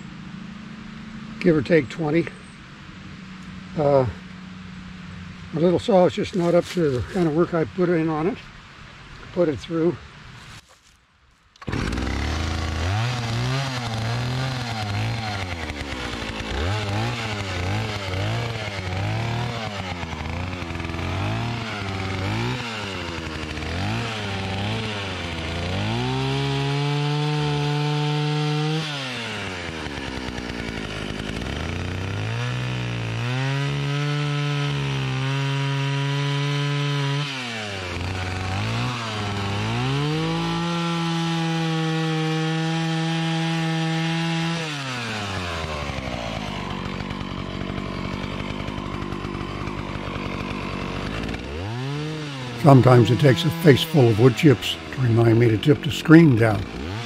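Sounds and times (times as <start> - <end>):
chainsaw cutting tree trunk: 5.6 - 7.4, 11.6 - 57.0.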